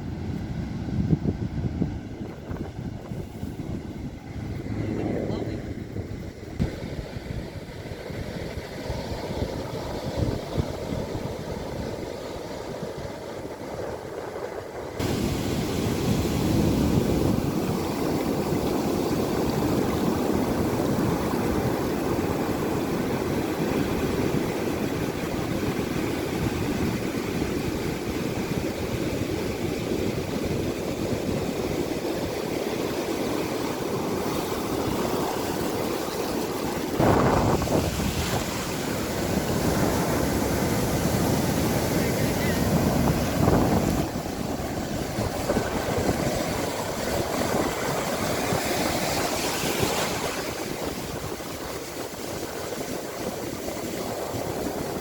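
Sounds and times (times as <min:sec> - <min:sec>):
rushing water and surf: 0:00.0 - 0:55.0
wind buffeting microphone: 0:00.0 - 0:55.0.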